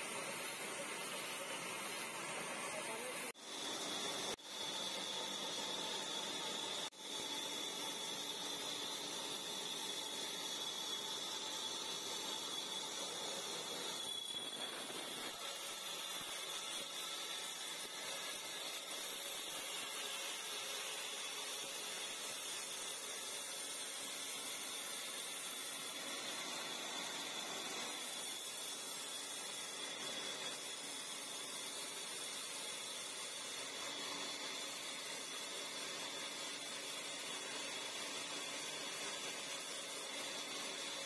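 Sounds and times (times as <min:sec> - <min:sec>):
bandsaw running: 0:00.0 - 0:41.0
high whine of saw blade: 0:00.0 - 0:41.0.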